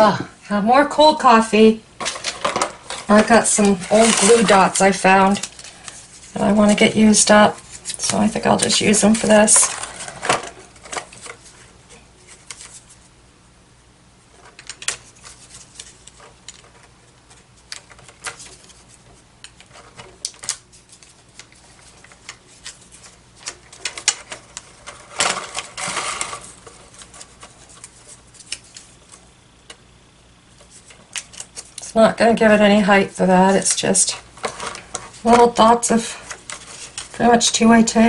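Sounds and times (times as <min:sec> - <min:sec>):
paper rustling and crinkling: 0:02.0 - 0:13.1, 0:14.3 - 0:29.3, 0:30.5 - 0:32.0, 0:33.1 - 0:38.0.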